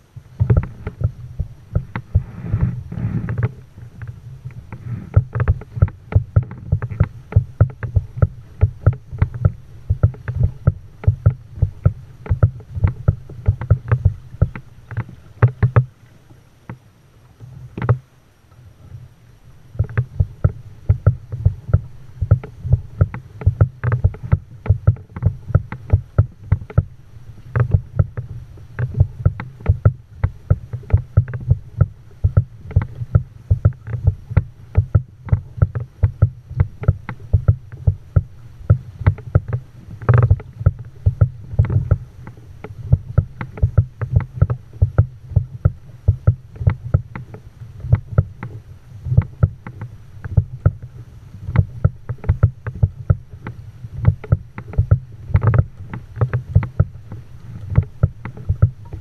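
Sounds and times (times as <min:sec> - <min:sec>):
low steady rumble: 0:00.0 - 0:59.0
water slapping against kayak hull: 0:00.0 - 0:59.0.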